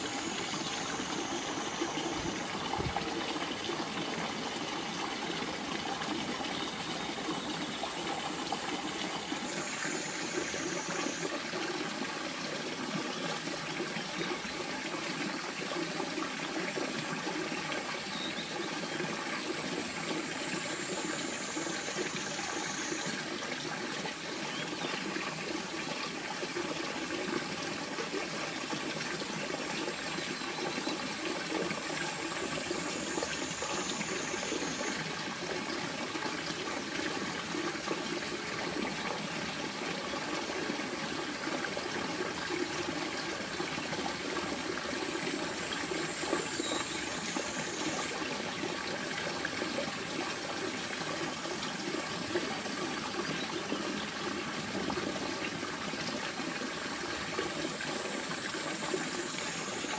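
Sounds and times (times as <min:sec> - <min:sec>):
water-like rushing noise: 0:00.0 - 0:59.9.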